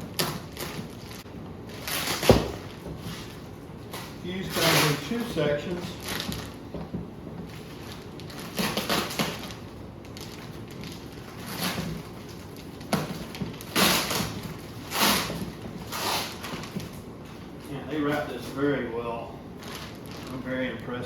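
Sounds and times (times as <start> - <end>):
packaging wrap rustling: 0.0 - 6.7, 7.4 - 18.8, 19.5 - 21.0.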